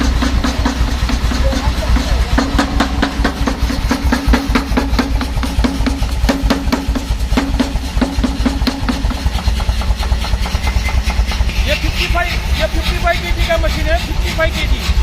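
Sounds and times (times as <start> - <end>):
air hammer striking: 0.0 - 15.0
low drive hum: 0.0 - 15.0.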